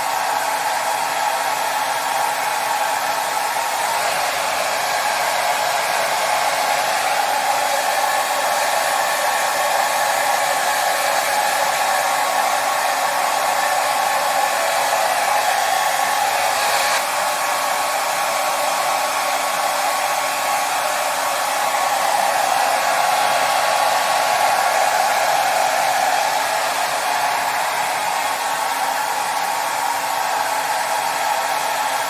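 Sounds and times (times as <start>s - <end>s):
hair dryer blowing air: 0.0s - 32.0s.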